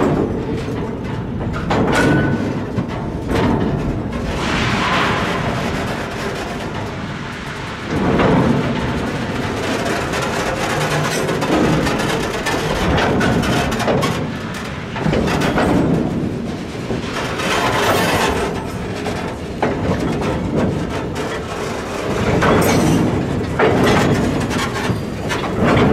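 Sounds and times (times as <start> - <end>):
train wagons rumbling past: 0.0 - 25.9
wheels clacking over rail joints: 0.0 - 25.9.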